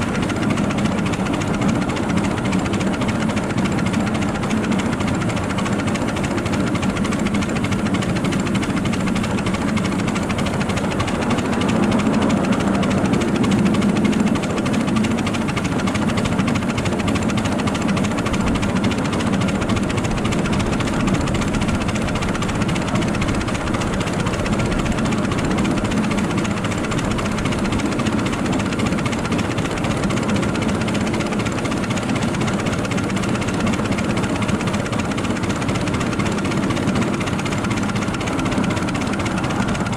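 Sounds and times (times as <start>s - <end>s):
miniature train wheels rumbling on rail: 0.0s - 39.9s.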